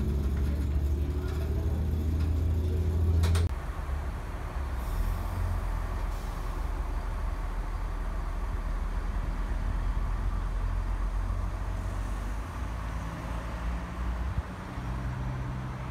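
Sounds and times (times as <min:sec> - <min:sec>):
train engine hum: 0:00.0 - 0:15.8
train rumbling: 0:00.0 - 0:15.8.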